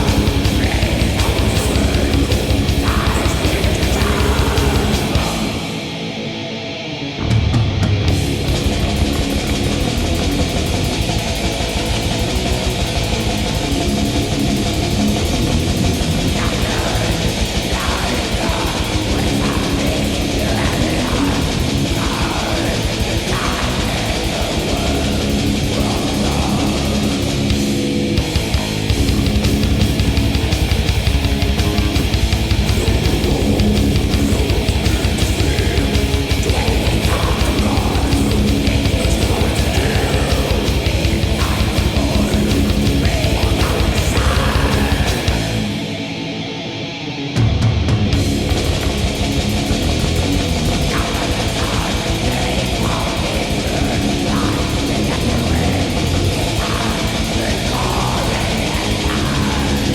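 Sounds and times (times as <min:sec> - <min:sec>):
fast drumming: 0:00.0 - 0:05.9, 0:07.8 - 0:45.9, 0:47.9 - 0:59.9
distorted electric guitars: 0:00.0 - 0:59.9.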